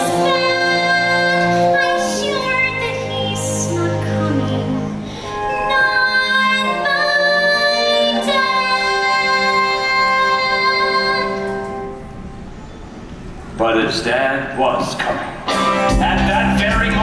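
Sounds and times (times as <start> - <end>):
musical backing: 0.0 - 14.0, 14.9 - 17.0.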